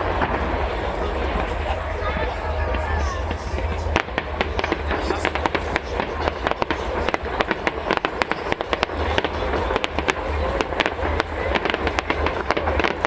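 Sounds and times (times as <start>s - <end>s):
fireworks cracking and popping: 0.0s - 13.0s
low rumble: 0.0s - 13.0s.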